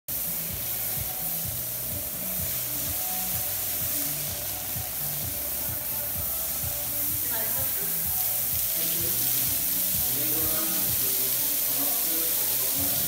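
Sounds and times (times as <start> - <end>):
hose nozzle spray hissing: 0.1 - 13.0.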